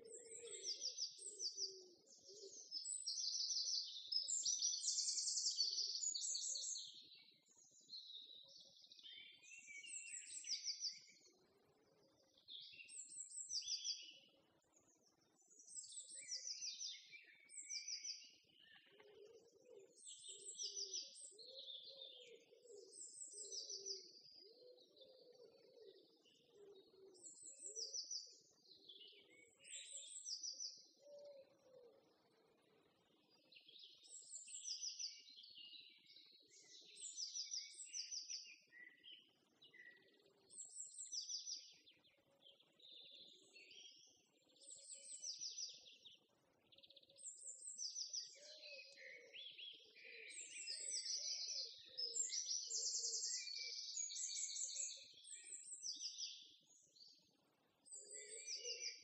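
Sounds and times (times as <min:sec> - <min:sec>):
small birds chirping and trilling: 0:00.0 - 0:59.0.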